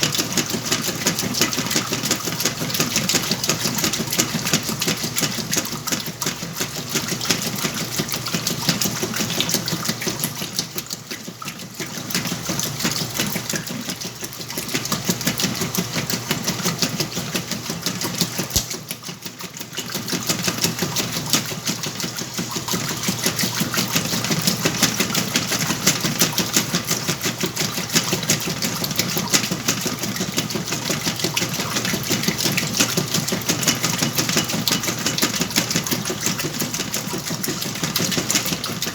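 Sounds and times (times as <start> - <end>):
washing machine clattering: 0.0 - 38.9.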